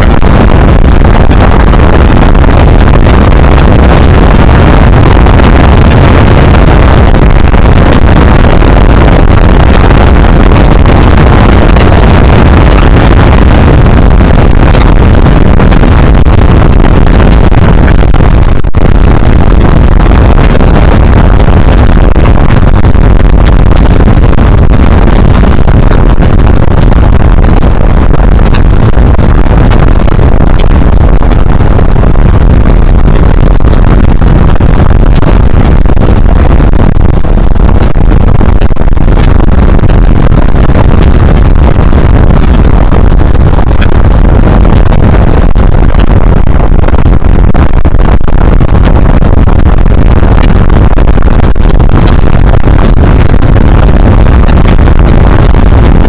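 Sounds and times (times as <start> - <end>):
crackles: 0.0 - 56.0
wind rush on microphone: 0.0 - 56.0.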